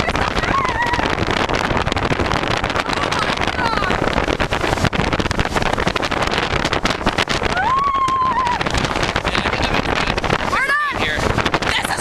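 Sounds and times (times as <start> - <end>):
rush of boat: 0.0 - 12.0
wind buffeting microphone: 0.0 - 12.0.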